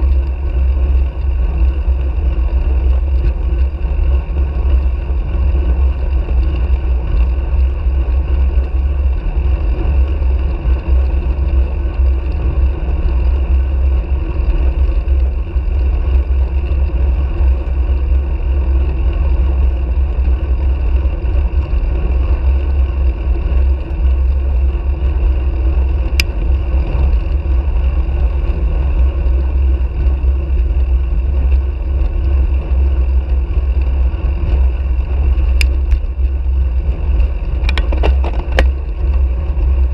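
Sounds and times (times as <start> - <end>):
tyre and road noise: 0.0 - 39.9
wind rumble on microphone: 0.0 - 39.9.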